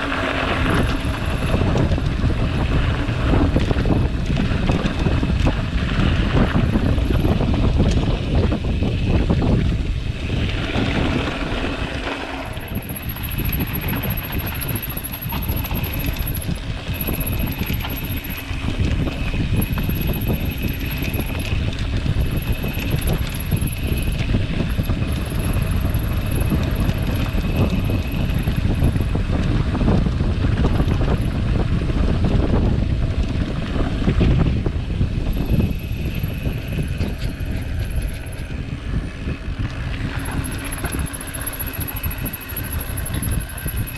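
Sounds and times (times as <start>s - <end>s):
bike rattling on dirt trail: 0.0s - 43.9s
wind on microphone: 0.0s - 43.9s.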